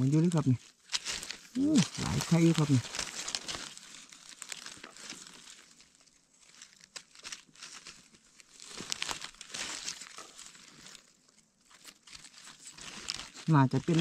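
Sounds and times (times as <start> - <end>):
dry leaves crackling and rustling: 0.0 - 14.0.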